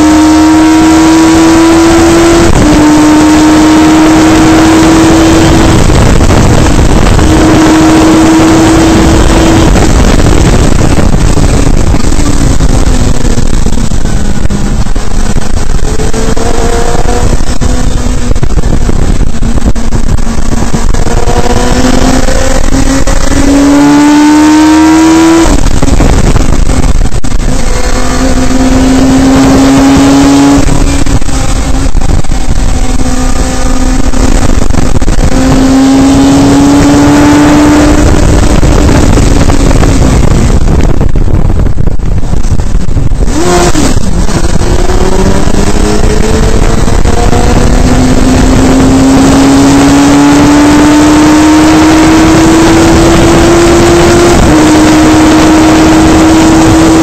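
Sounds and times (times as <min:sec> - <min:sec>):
race car engine revving: 0:00.0 - 0:57.0
wind and road noise: 0:00.0 - 0:57.0.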